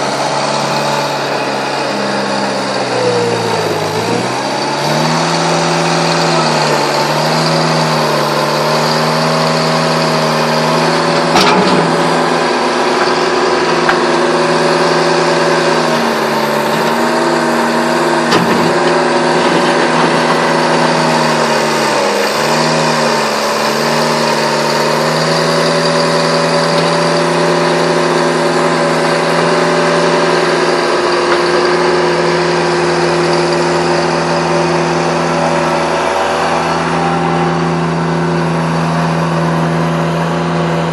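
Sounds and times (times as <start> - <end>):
diesel engine running at high speed: 0.0 - 40.9.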